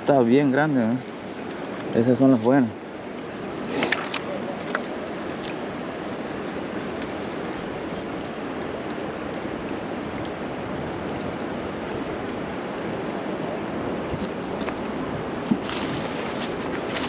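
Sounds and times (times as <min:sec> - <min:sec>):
river current rushing: 0:00.0 - 0:17.0.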